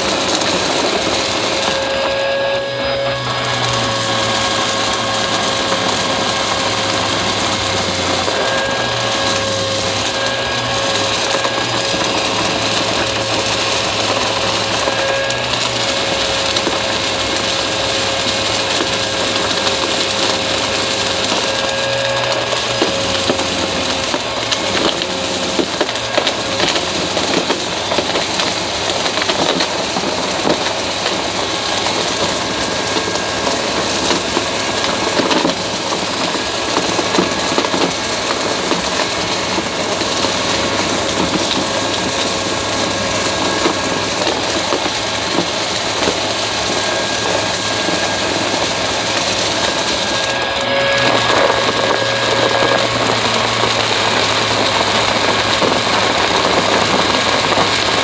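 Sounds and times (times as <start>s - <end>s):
debris crunching in vacuum: 0.0s - 58.0s
vacuum cleaner motor whine: 0.0s - 58.0s.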